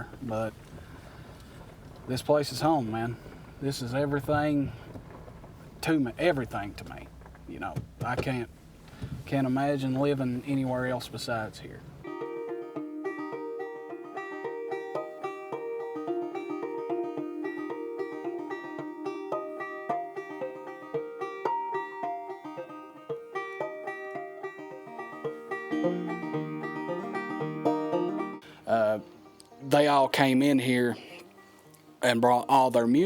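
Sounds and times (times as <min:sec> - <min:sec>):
banjo picking: 0:00.0 - 0:33.0.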